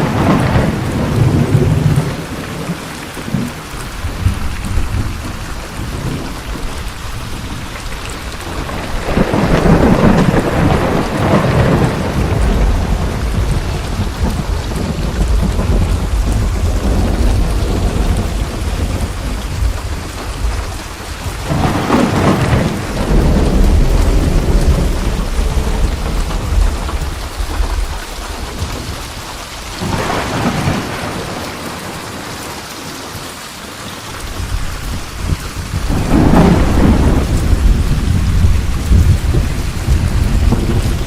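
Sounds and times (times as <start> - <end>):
rolling thunder: 0.0 - 7.7, 8.3 - 32.2, 34.2 - 41.0
steady rain: 0.0 - 41.0.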